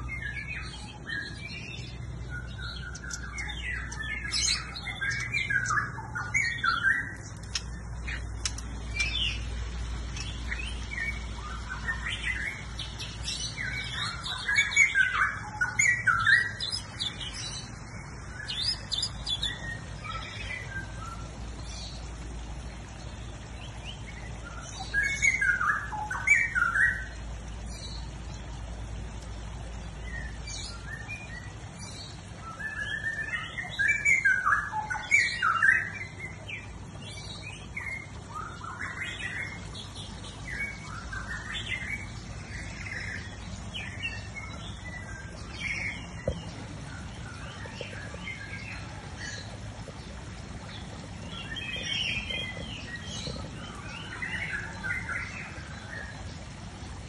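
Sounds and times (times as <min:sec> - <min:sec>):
songbird chirping: 0:00.0 - 0:57.0.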